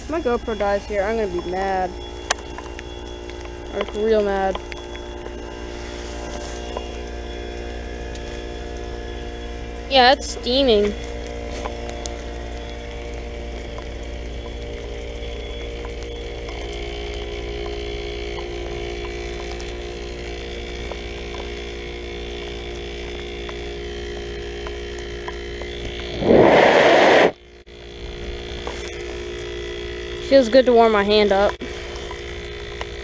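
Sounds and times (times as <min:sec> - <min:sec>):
heat pump unit humming: 0:00.0 - 0:33.0.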